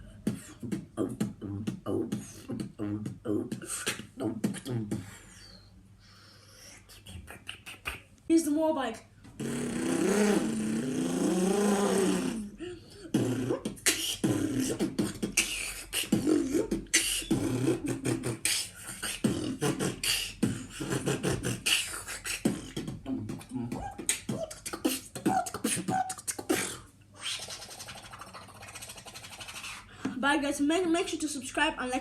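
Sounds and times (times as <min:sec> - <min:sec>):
beatboxer imitating motorbike: 0:00.0 - 0:05.5, 0:07.0 - 0:08.4, 0:09.4 - 0:32.0
beatbox rhythm: 0:00.0 - 0:05.7, 0:06.6 - 0:08.2, 0:09.3 - 0:30.2.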